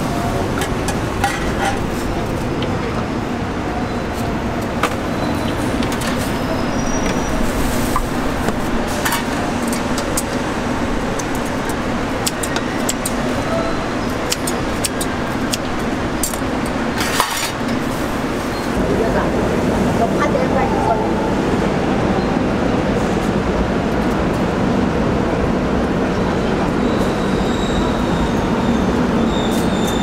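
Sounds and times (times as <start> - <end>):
street stall noise and hum: 0.0 - 30.0.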